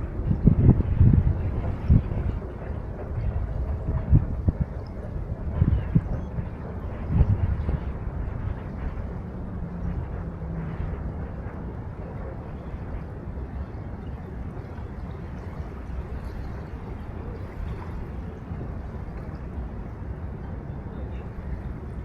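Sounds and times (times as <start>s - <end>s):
river water: 0.0s - 22.0s
wind rumble: 0.0s - 22.0s.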